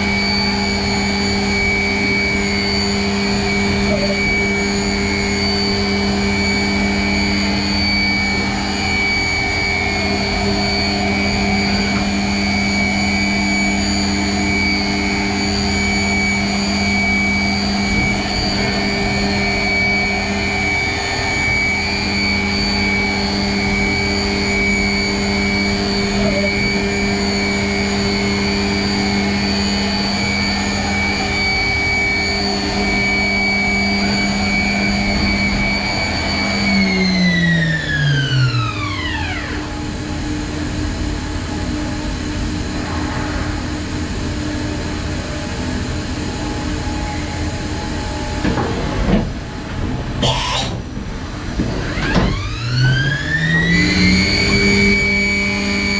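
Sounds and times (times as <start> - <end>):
high-pitched motor whines: 0.0 - 55.9
machine low hum and rumble: 0.0 - 55.9.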